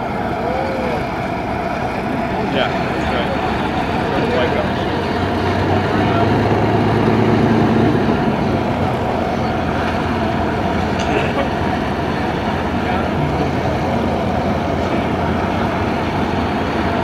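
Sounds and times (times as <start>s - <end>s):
piston aircraft engines droning: 0.0s - 17.0s.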